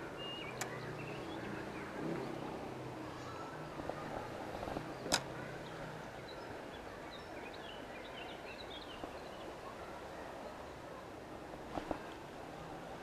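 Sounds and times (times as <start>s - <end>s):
faint high bird chirps: 0.0s - 11.1s.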